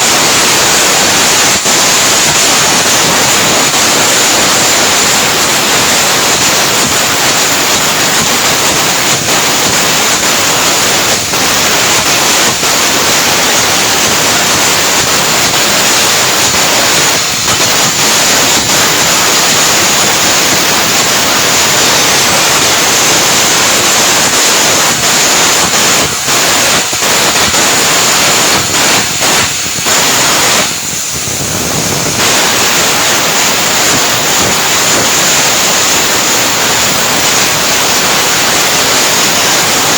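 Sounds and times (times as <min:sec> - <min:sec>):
arc welding crackling hiss: 0:00.0 - 0:39.9.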